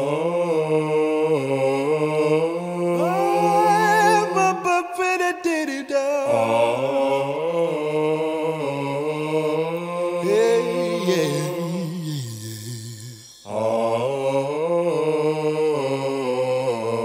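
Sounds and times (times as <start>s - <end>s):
chant-like singing: 0.0s - 17.0s.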